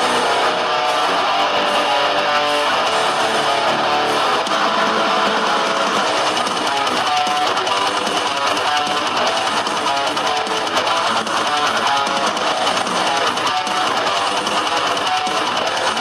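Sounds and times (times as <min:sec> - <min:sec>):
background music with guitar: 0:00.0 - 0:16.0.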